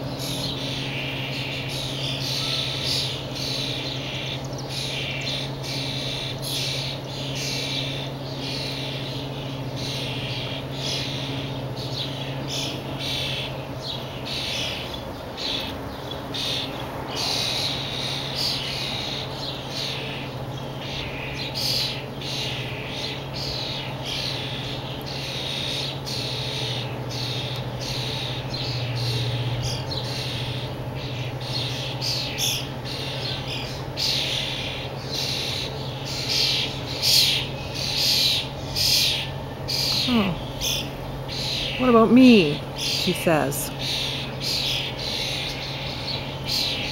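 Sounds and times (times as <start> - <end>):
fledglings raspy begging calls: 0.0 - 46.9
steady low hum: 0.0 - 46.9.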